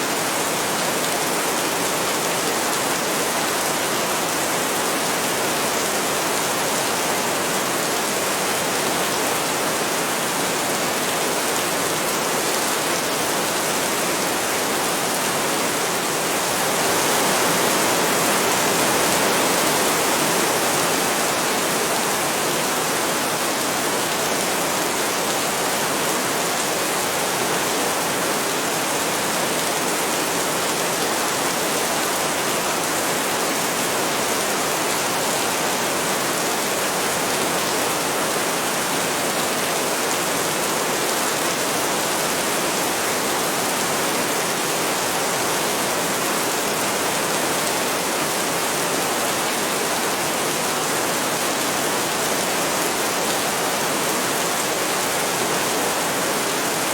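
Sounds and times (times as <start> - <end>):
heavy rain falling: 0.1 - 56.9.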